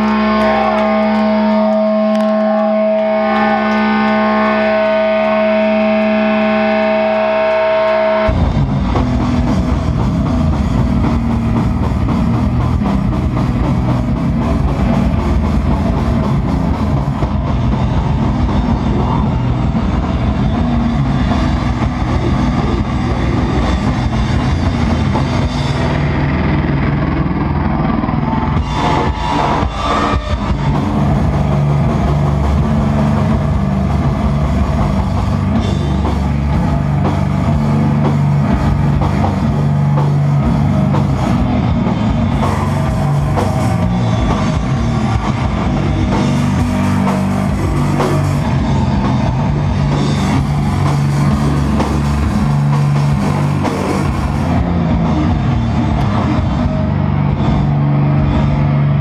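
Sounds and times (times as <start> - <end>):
distorted electric guitar chords: 0.0 - 59.0
drum kit: 0.0 - 59.0.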